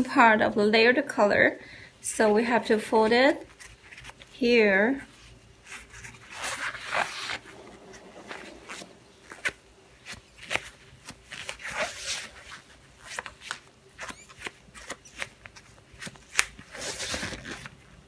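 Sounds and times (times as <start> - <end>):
fabric rustling against gloves: 3.4 - 18.0.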